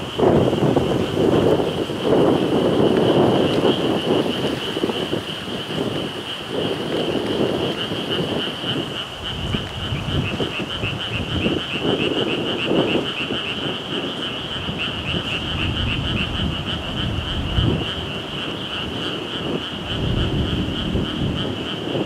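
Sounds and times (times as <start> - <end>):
gusty wind on microphone: 0.0 - 22.0.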